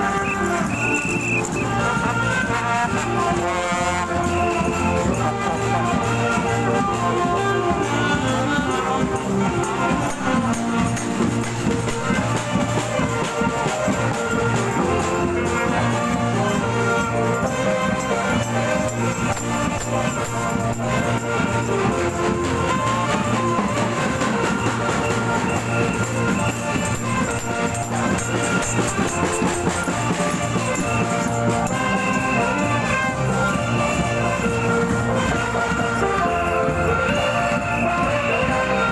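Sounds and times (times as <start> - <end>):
held instrument tones: 0.0 - 38.9
procession band playing: 0.0 - 38.9
steady drum beat: 0.0 - 38.9.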